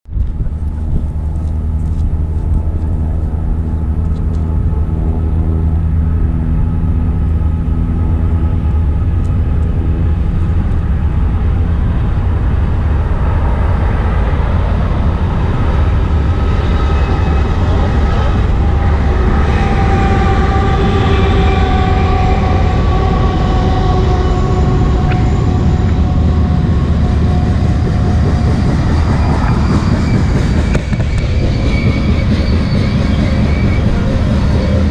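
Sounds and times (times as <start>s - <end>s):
diesel locomotive engine drone: 0.0s - 34.9s
rolling noise of train cars: 0.1s - 34.9s.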